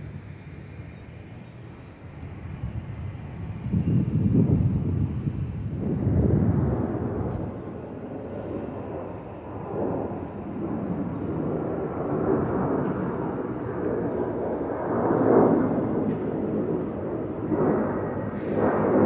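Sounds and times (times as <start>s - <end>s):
jet airliner climbing overhead: 0.0s - 19.0s.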